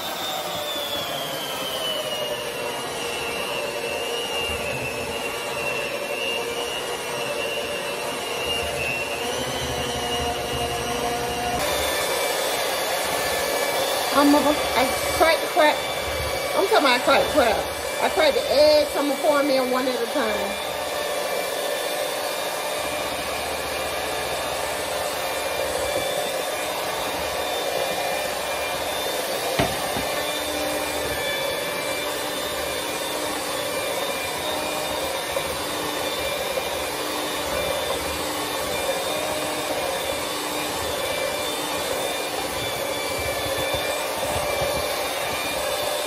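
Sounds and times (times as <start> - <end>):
electric hand mixer whirring: 0.0 - 46.0.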